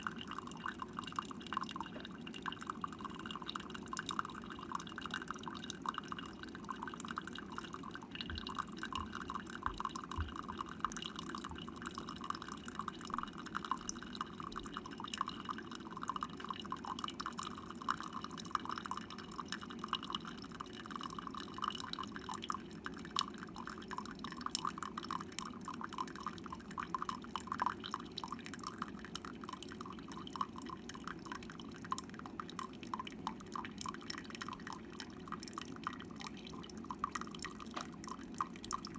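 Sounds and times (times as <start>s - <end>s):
coffee dripping into cup: 0.0s - 38.9s
coffee maker humming: 0.0s - 38.9s.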